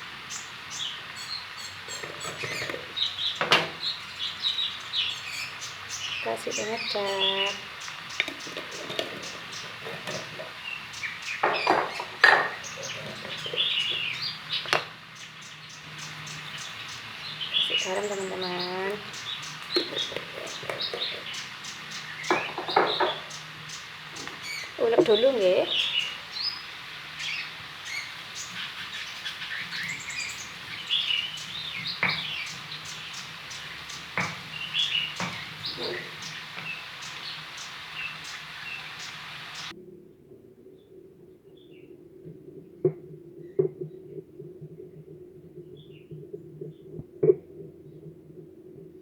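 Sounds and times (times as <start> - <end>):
birds chirping: 0.0 - 39.8, 43.4 - 48.1.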